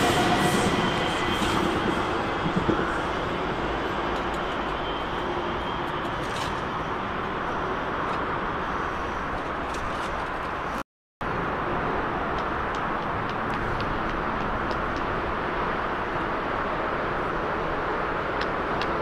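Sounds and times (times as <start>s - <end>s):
faint train rumbling: 0.0s - 19.0s
traffic: 0.0s - 19.0s.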